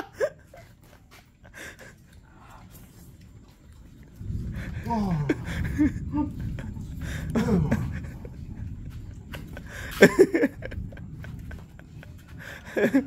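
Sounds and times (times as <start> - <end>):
men huffing and blowing: 0.0 - 2.7, 4.4 - 13.0.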